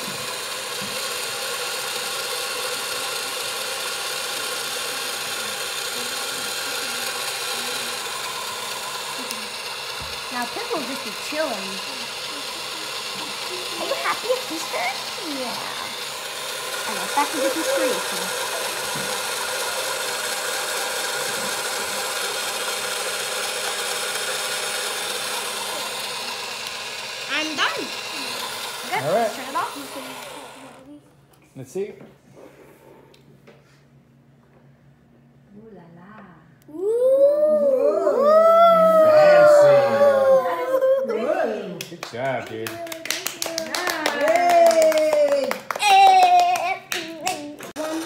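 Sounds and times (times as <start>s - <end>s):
small motor whirring: 0.0s - 31.0s, 37.4s - 41.6s, 42.5s - 48.0s.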